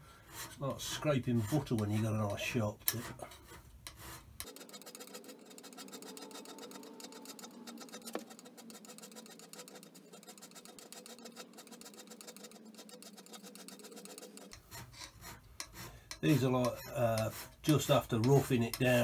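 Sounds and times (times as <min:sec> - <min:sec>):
hand scraper scraping cast iron: 0:00.2 - 0:19.0.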